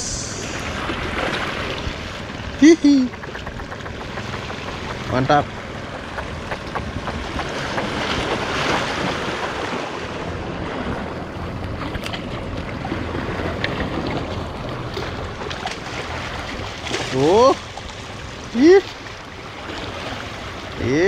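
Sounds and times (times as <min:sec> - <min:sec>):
sea waves washing against rocks: 0:00.0 - 0:21.0.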